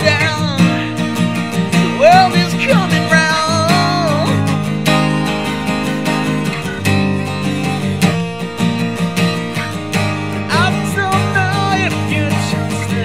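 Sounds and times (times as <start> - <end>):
acoustic guitar strumming: 0.0 - 13.0
sliding guitar line: 0.0 - 13.0.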